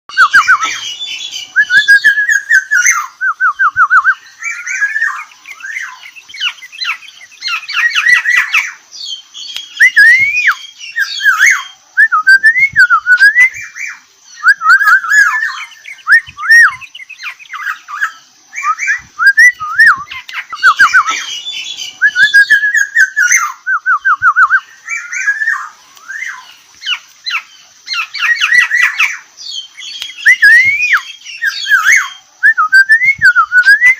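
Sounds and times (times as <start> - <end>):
oriole singing fluty whistles: 0.1 - 26.5, 27.3 - 33.9.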